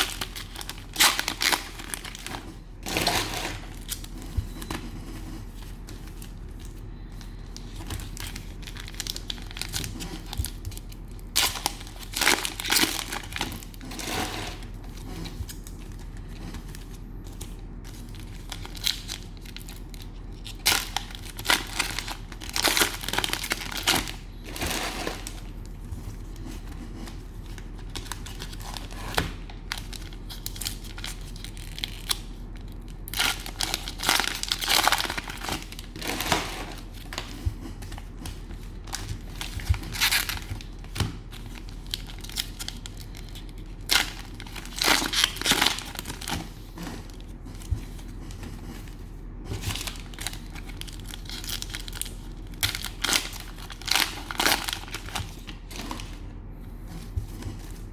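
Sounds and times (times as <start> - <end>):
cellophane wrappers crinkling and tearing: 0.0 - 57.9.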